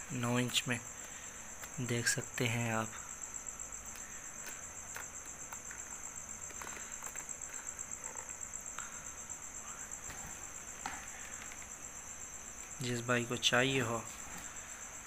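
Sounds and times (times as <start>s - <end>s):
cricket chirping trill: 0.0s - 15.0s.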